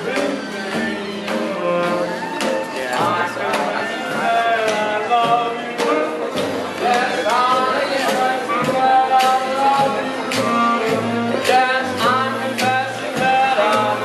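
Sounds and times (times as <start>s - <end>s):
jazz band playing: 0.0s - 14.0s
person singing: 0.0s - 14.0s.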